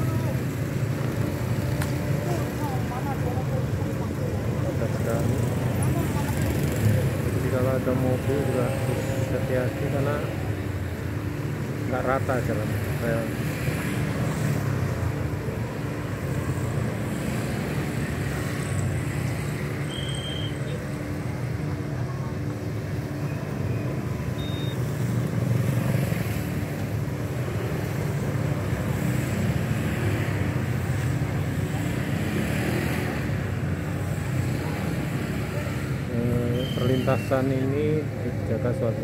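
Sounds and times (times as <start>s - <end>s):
motorcycle and scooter engines rumbling: 0.0s - 39.0s.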